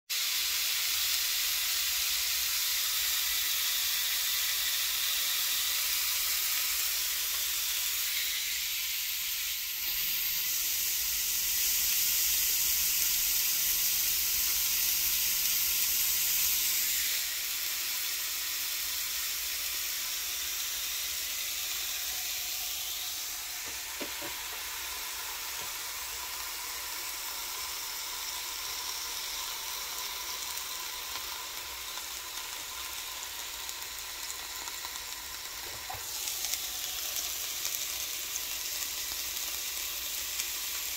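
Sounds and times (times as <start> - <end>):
patties sizzling on a grill: 0.1 - 40.9.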